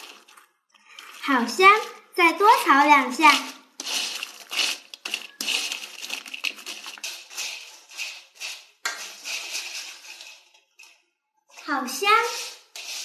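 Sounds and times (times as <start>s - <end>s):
spatula scraping fries in a wok: 0.0s - 10.8s, 11.5s - 13.0s.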